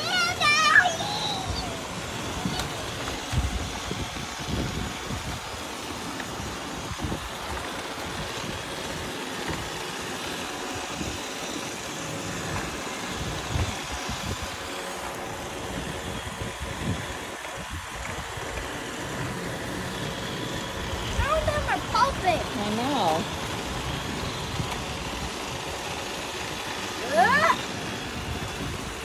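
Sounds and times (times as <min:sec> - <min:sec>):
faint constant whine: 0:00.0 - 0:29.0
robot vacuums whirring: 0:00.0 - 0:29.0.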